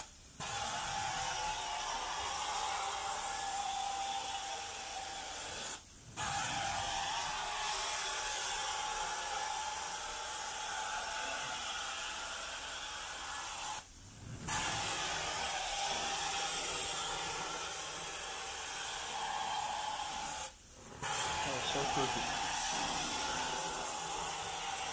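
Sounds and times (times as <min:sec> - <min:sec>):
carpet extraction wand hissing: 0:00.0 - 0:24.9.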